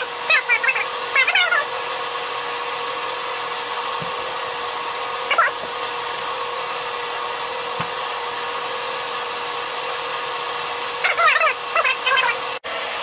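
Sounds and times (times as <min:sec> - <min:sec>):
small motor humming and whining: 0:00.0 - 0:13.0.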